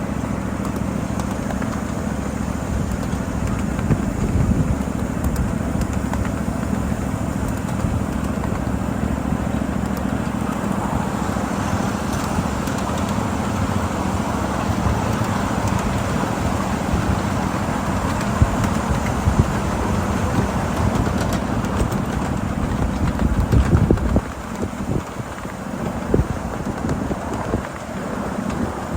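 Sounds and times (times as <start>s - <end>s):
miniature train engine drone: 0.0s - 28.9s.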